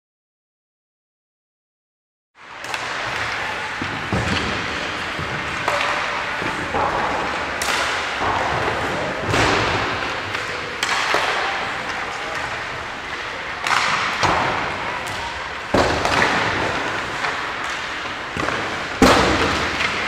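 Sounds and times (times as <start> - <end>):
hockey pucks hitting sticks and boards: 2.4 - 20.0.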